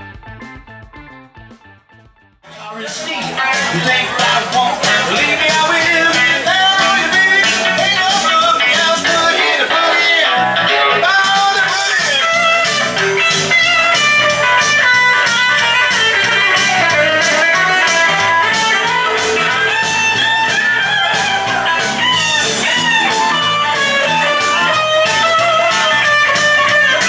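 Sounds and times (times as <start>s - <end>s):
electric guitar melody over beat: 0.0s - 27.0s.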